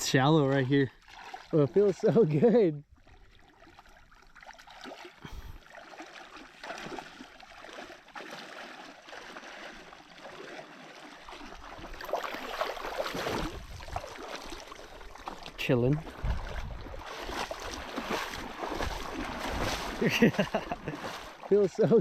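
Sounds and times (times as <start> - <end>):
river water trickling and lapping: 0.0 - 22.0
small water splashes: 0.0 - 22.0.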